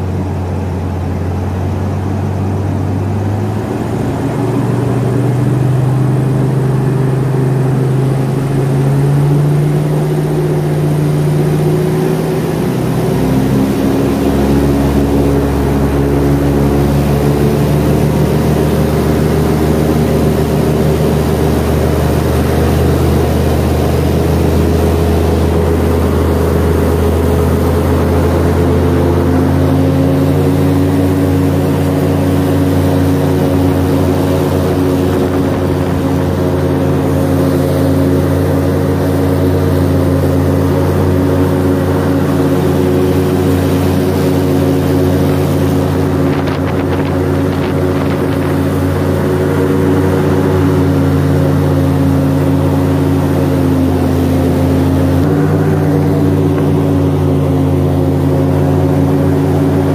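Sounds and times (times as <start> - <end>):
airboat engine and propeller: 0.0 - 59.9.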